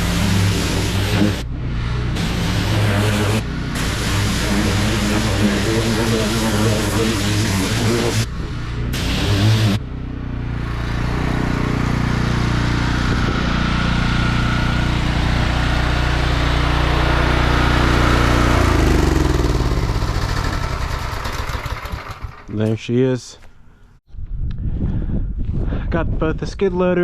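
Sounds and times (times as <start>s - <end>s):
engine running: 0.0s - 22.8s.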